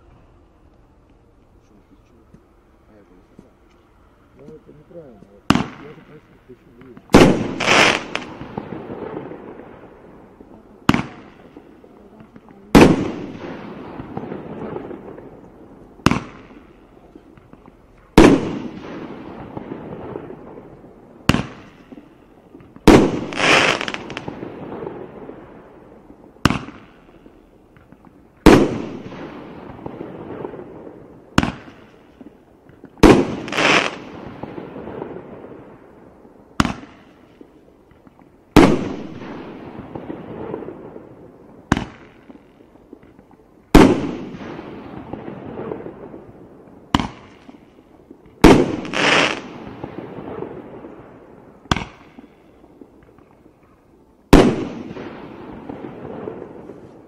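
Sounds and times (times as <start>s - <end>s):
firework bursting bang: 4.5s - 25.6s, 26.4s - 35.9s, 36.6s - 47.6s, 48.2s - 52.9s, 54.3s - 57.0s.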